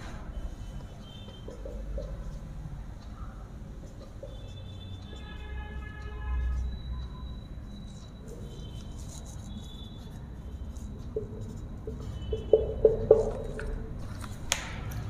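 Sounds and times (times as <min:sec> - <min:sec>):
marker pen on whiteboard: 0:00.0 - 0:15.0.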